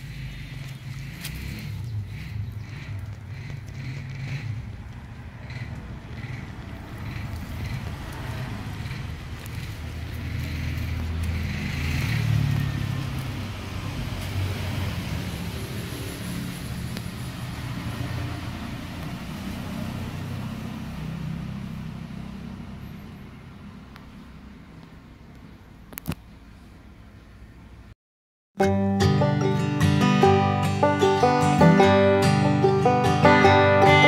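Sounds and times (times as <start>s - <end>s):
vehicle engine rumbling: 0.0s - 27.9s, 28.6s - 34.0s.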